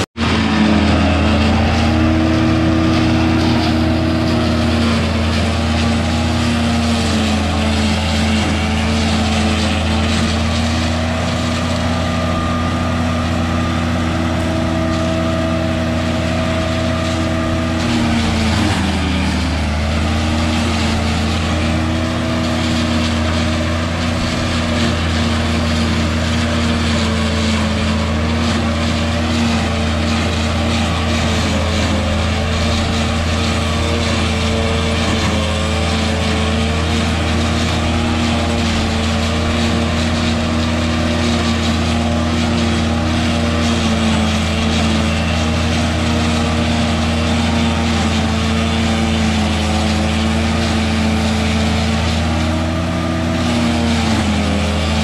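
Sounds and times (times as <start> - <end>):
engine drone: 0.0 - 55.0
rushing blower: 0.0 - 55.0.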